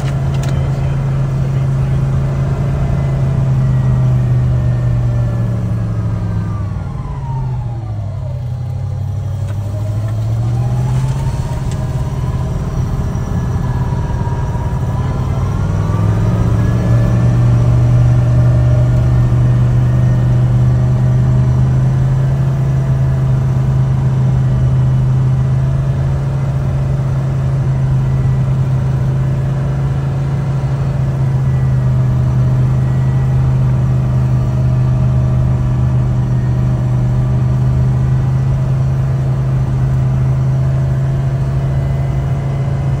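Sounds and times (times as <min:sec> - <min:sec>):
snow vehicle engine drone: 0:00.0 - 0:43.0.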